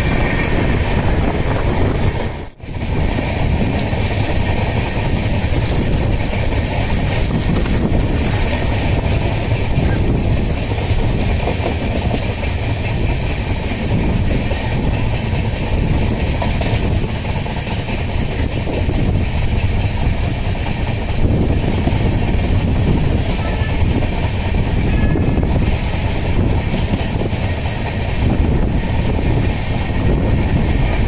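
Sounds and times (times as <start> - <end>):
steel wheels rolling on rails: 0.0 - 31.0.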